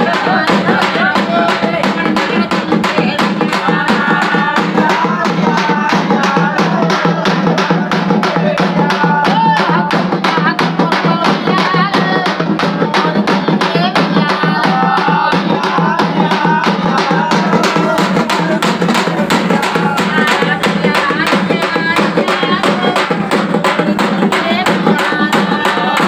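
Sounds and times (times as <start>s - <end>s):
drums beaten with sticks: 0.0s - 26.0s.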